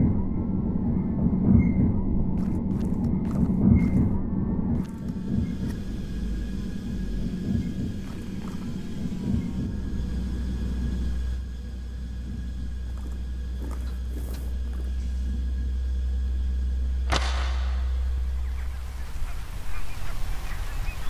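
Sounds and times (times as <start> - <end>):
deep rumbling drone: 0.0 - 21.0.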